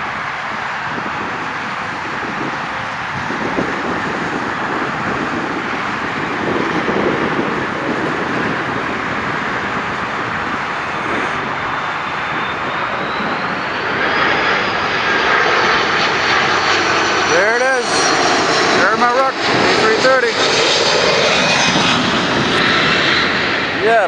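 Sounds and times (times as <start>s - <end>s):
jet airliner rumble and whine: 0.0s - 24.0s.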